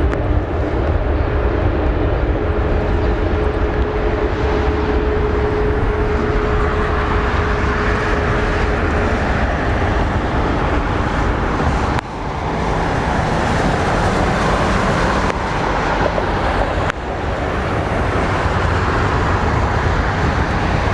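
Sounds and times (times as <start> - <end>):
jet engines roaring at takeoff: 0.0 - 20.9.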